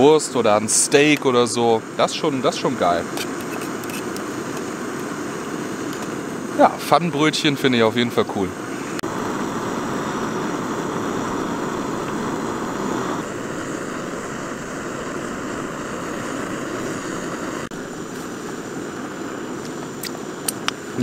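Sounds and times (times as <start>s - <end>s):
gas stove flame hissing: 0.0s - 21.0s.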